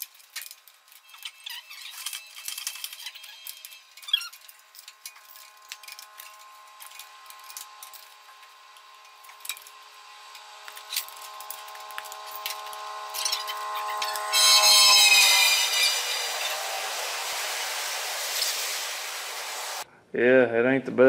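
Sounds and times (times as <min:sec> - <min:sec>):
steady hum: 0:00.0 - 0:19.9
loud high screech: 0:00.9 - 0:19.8.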